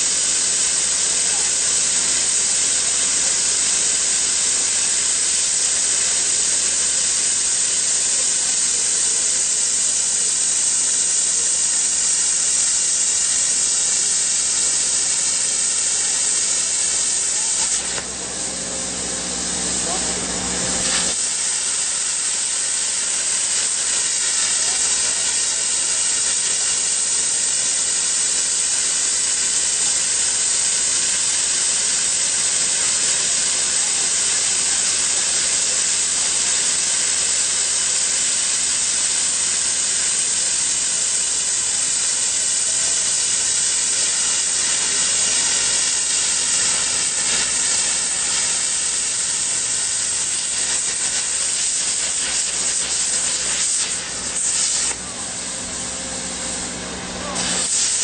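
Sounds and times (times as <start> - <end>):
plasma cutter torch hissing: 0.0 - 58.0.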